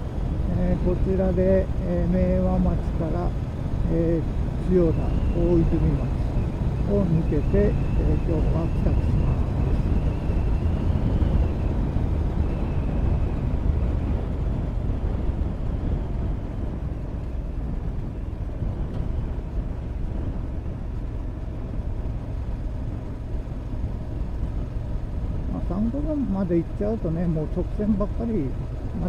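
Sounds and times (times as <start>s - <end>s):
motorcycle engine: 0.0s - 17.1s, 18.6s - 29.0s
road noise: 0.0s - 29.0s
wind rush over microphone: 0.0s - 29.0s.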